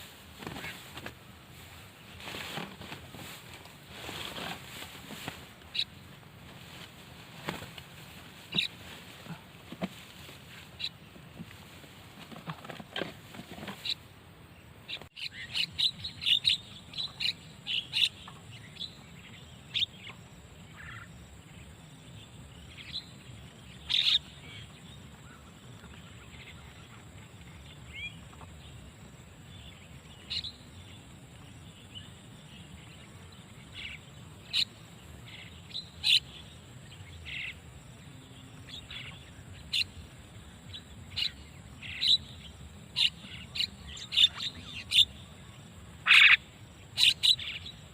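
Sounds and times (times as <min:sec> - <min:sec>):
faint background hiss: 0:00.0 - 0:47.9.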